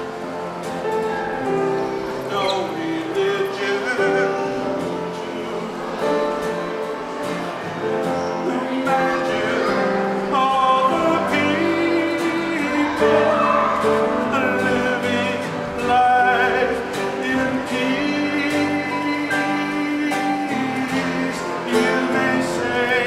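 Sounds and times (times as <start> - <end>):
instrumental accompaniment: 0.0 - 23.0
voices singing: 1.3 - 23.0.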